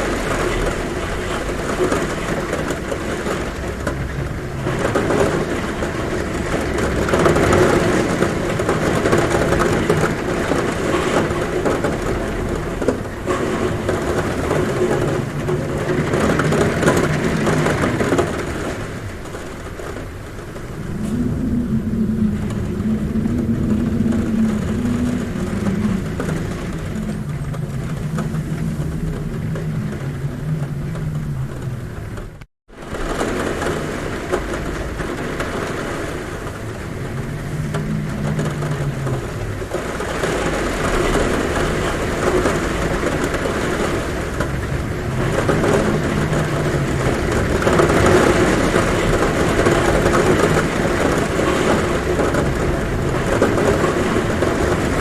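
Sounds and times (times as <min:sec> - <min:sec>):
heavy rain on a roof: 0:00.0 - 0:55.0
low wind moan: 0:00.0 - 0:55.0.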